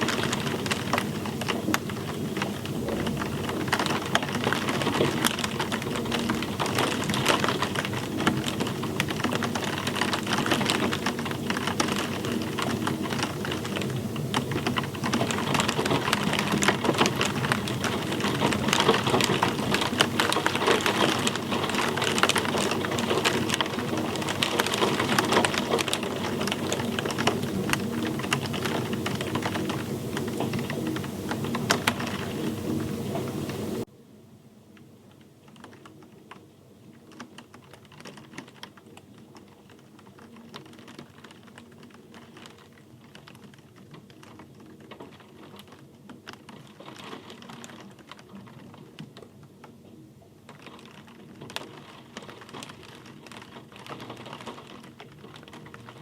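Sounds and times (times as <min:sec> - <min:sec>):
rain drops on hard surface: 0:00.0 - 0:33.9, 0:34.7 - 0:56.0.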